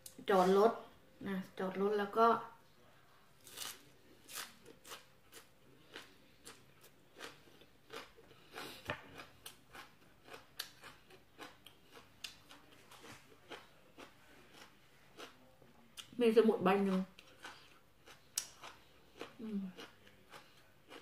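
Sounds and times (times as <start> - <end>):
chewing crunchy vegetables: 3.4 - 16.1, 16.8 - 21.0.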